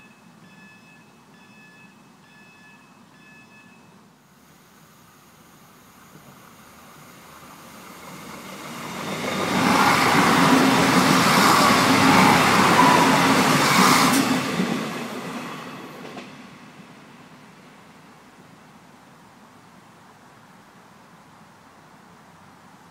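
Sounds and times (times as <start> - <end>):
diesel train passing: 0.0 - 18.9.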